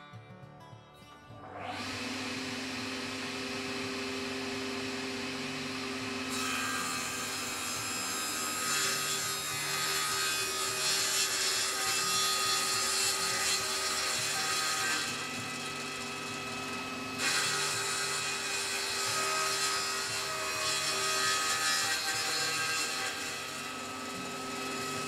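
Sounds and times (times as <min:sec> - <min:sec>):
table saw motor hum: 0:01.5 - 0:25.0
saw blade cutting wood: 0:01.6 - 0:25.0.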